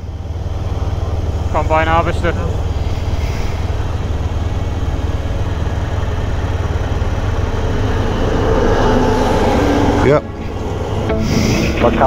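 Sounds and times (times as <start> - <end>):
combine harvester diesel engine: 0.0 - 12.0.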